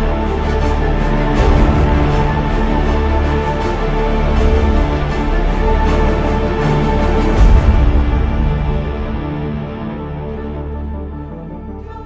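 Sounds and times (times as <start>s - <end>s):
low music with heavy bass: 0.0s - 12.0s.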